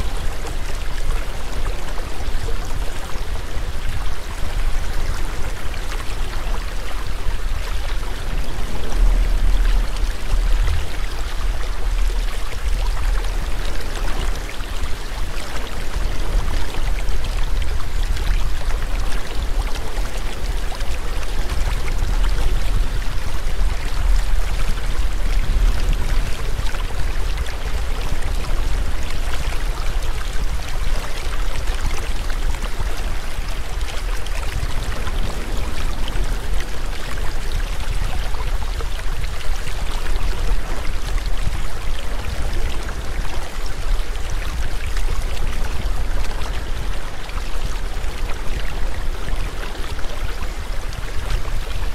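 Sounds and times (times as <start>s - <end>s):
rushing water with deep rumble: 0.0s - 51.9s.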